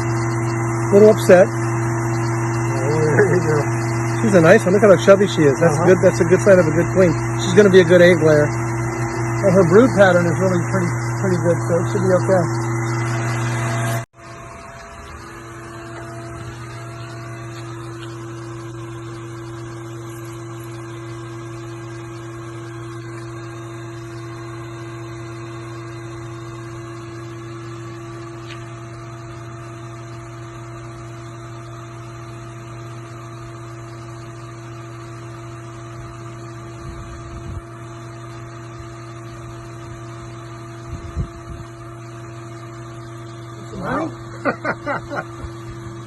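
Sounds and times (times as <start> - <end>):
low mechanical hum: 0.0 - 46.0.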